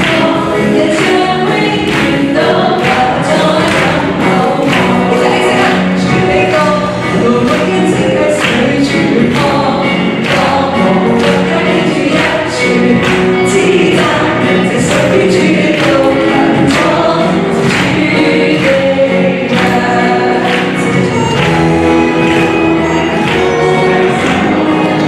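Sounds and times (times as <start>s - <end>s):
drums: 0.0s - 25.0s
electric guitar: 0.0s - 25.0s
keyboard: 0.0s - 25.0s
woman singing: 0.0s - 25.0s.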